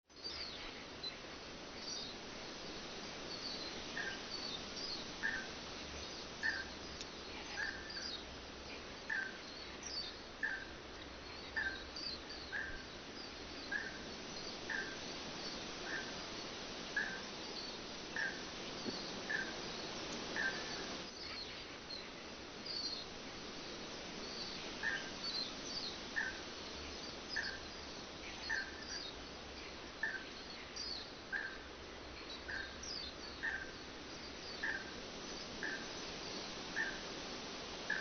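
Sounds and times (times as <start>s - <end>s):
forest birds calling: 0.1s - 38.0s.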